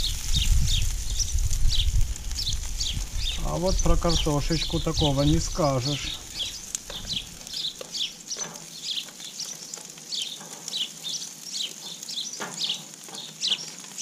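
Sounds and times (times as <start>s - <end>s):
meat and potatoes sizzling: 0.0s - 14.0s.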